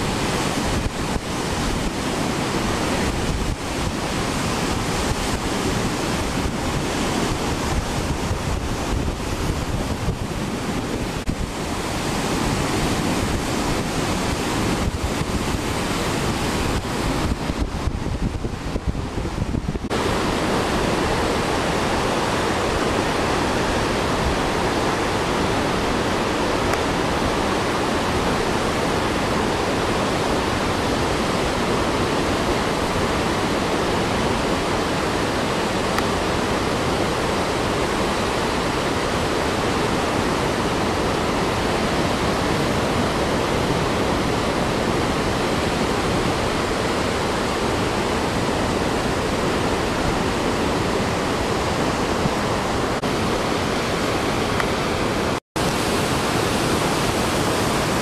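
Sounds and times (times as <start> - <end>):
rapids rushing: 0.0 - 58.0.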